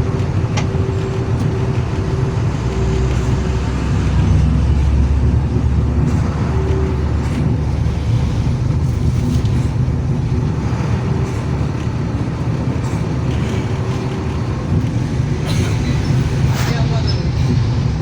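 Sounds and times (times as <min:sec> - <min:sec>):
diesel truck engine rumbling: 0:00.0 - 0:18.0
road noise: 0:00.0 - 0:18.0.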